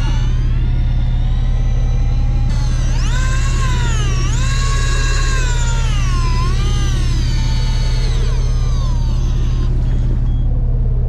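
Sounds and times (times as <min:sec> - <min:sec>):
fishing reel motor whining: 0:00.0 - 0:10.7
boat engine drone: 0:00.0 - 0:11.0.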